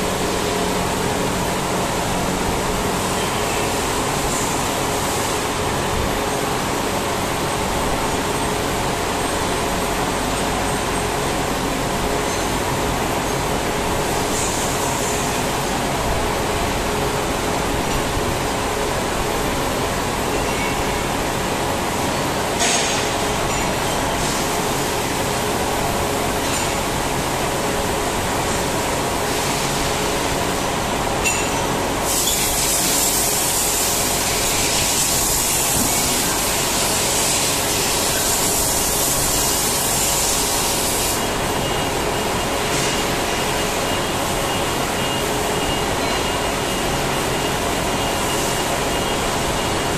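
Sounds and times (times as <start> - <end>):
machinery humming: 0.0 - 49.9.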